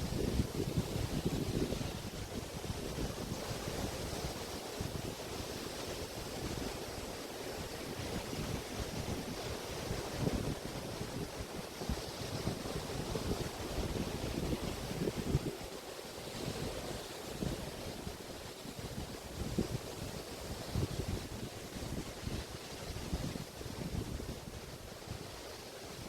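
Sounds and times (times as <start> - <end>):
wind gusting on microphone: 0.0 - 5.2, 7.7 - 15.8, 16.4 - 25.5
small waves washing onto beach: 0.0 - 26.0.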